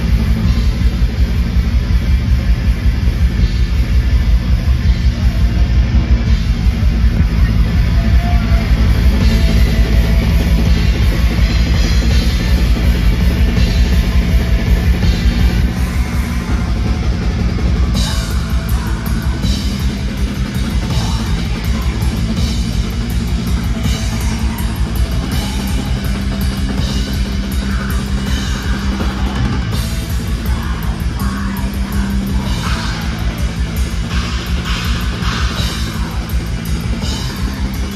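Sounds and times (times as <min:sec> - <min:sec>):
distorted guitar and bass: 0:00.0 - 0:37.9
fast dense drumming: 0:00.0 - 0:37.9.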